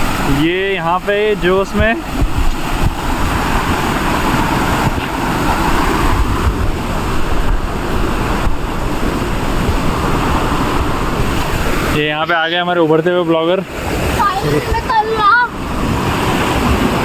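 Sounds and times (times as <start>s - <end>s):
rushing mountain stream: 0.0s - 17.0s.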